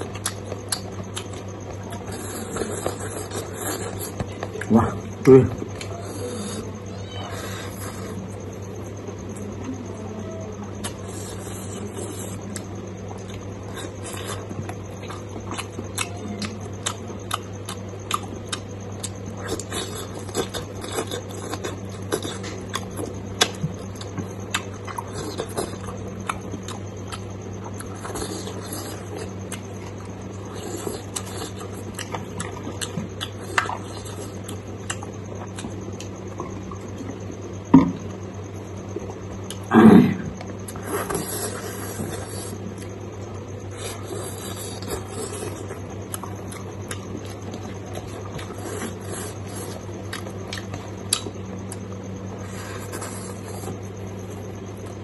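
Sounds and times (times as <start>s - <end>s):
chewing and lip-smacks: 0.0s - 6.7s, 10.8s - 37.4s, 38.9s - 39.7s, 40.4s - 55.0s.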